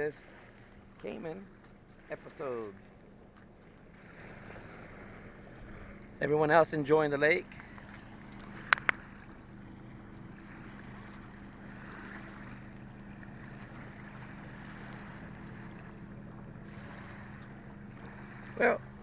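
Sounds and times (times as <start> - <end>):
steady low hum: 0.0 - 19.0
water lapping: 0.0 - 19.0
wind: 0.0 - 19.0.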